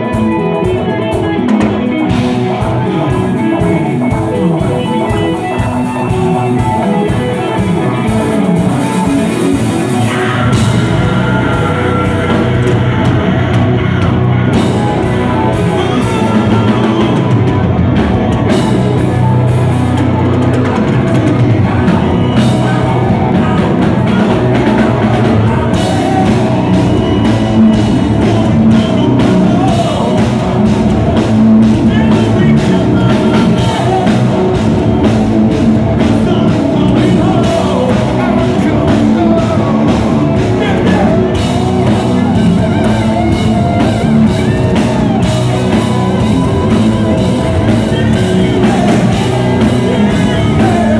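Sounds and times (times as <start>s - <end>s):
man singing: 0.0s - 50.9s
rock band playing live: 0.0s - 50.9s.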